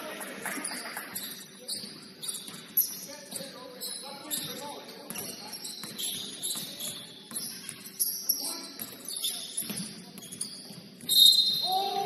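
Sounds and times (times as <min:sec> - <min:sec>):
sneakers squeaking on hardwood: 0:00.6 - 0:12.0.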